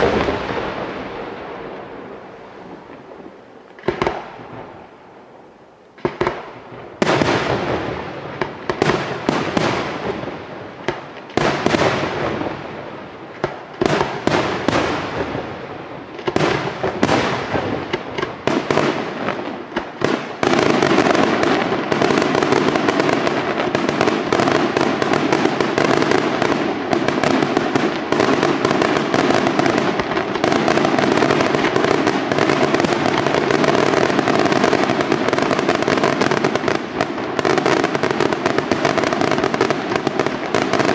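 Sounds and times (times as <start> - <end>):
fireworks bursting with bangs: 0.0 - 4.9, 6.0 - 40.9.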